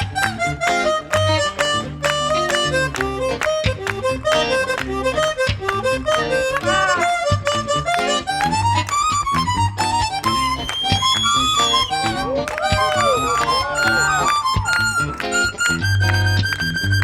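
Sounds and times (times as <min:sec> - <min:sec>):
bass notes: 0:00.0 - 0:17.0
harmonica melody: 0:00.0 - 0:17.0.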